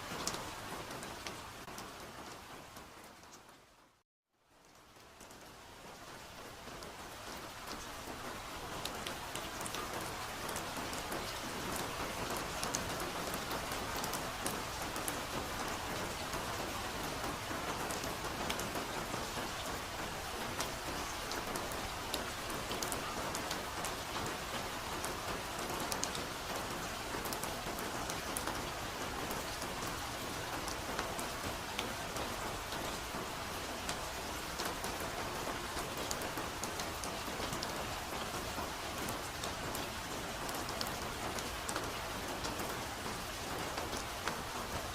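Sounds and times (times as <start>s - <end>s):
soft rainfall hiss: 0.0s - 44.9s.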